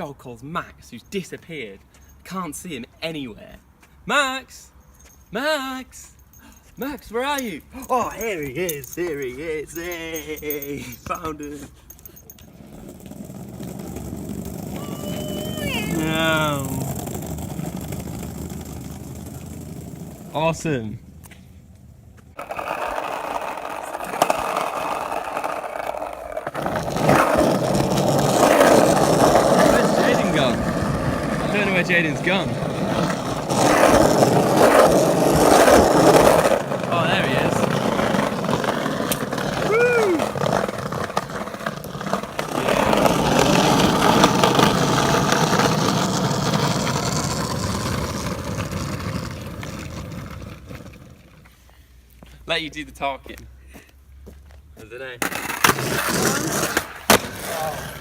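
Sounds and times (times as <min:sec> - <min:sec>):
skateboard wheels rolling on pavement: 0:06.8 - 0:58.0.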